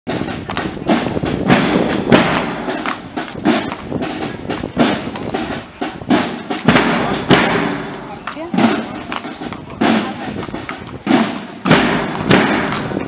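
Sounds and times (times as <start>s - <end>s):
bass drum beating: 0.1s - 13.0s
snare drums: 0.1s - 13.0s.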